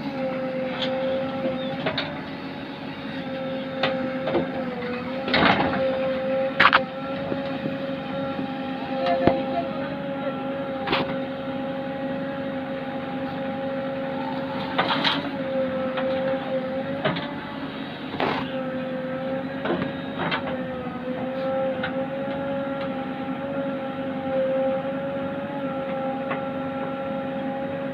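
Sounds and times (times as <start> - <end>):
diesel engine running: 0.0 - 27.9
hydraulic hum: 0.0 - 27.9.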